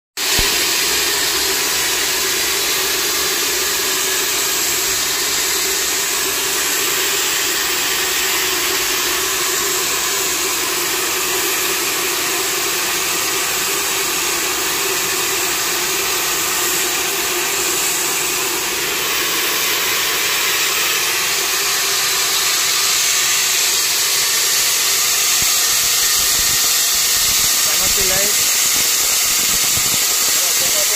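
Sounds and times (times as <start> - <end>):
gas rushing out hiss: 0.2 - 30.9.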